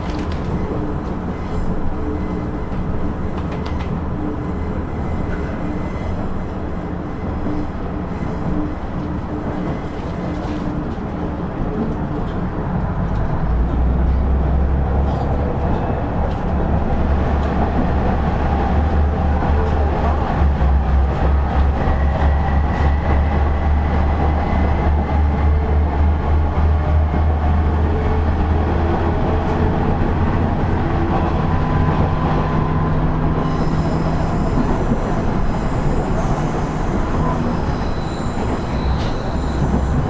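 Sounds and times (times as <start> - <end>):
railcar engine drone: 0.0 - 40.0
wheel and rail noise: 0.0 - 40.0.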